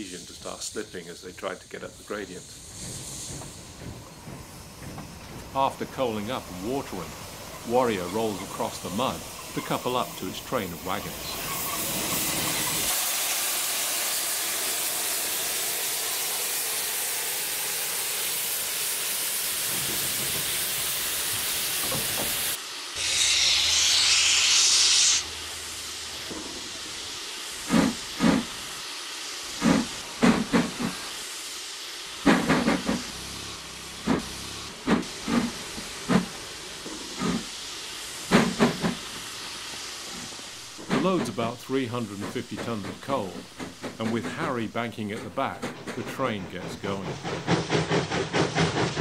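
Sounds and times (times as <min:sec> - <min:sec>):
locomotive exhaust chuffs: 0:00.0 - 0:23.8, 0:32.0 - 0:49.0
loud blast of steam: 0:00.0 - 0:49.0
steam locomotive hissing: 0:00.0 - 0:49.0.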